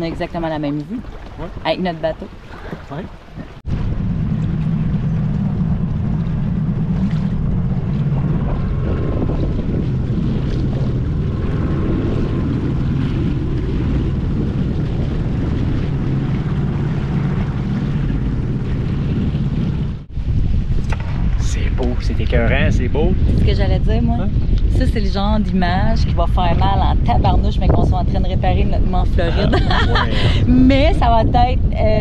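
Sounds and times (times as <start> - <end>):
boat motor running: 0.0 - 32.0
wind buffeting microphone: 0.0 - 32.0.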